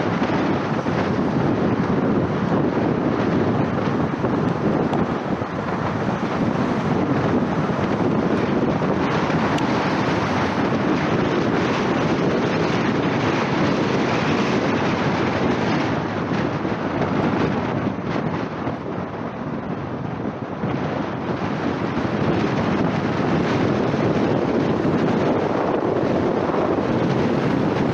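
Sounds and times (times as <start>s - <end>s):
car tyre and road noise: 0.0s - 27.9s
wind on microphone: 0.0s - 27.9s.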